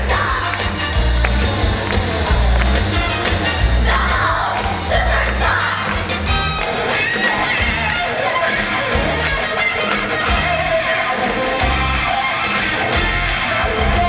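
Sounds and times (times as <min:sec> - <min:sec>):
loud music with guitar and bass: 0:00.0 - 0:14.0.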